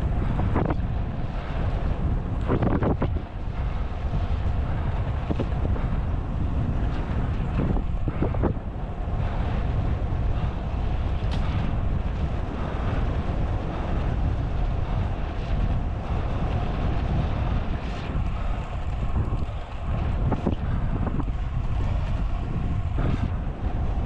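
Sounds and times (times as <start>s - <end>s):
low road rumble: 0.0s - 24.0s
wind buffeting microphone: 0.0s - 24.0s.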